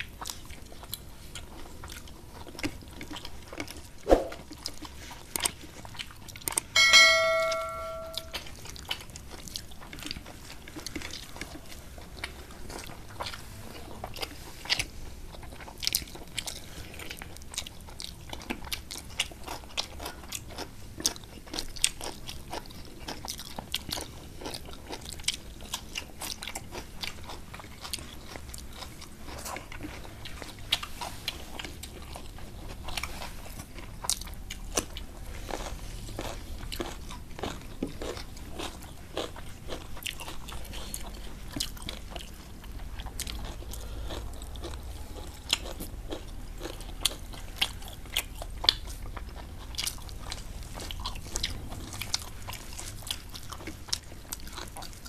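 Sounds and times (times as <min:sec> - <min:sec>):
people chewing and crunching food: 0:00.0 - 0:55.0.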